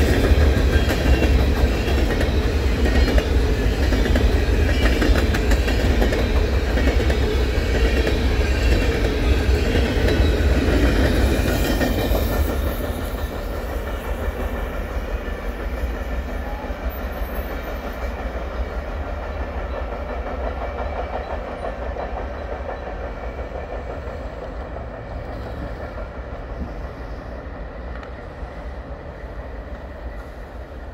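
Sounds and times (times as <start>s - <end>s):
low train rumble: 0.0s - 30.9s.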